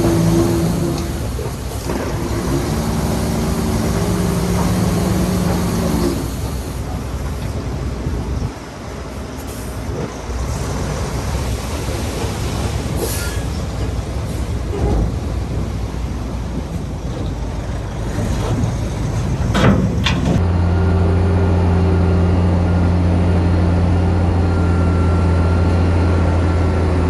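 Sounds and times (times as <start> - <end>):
bulldozer engine and tracks: 0.0 - 27.0.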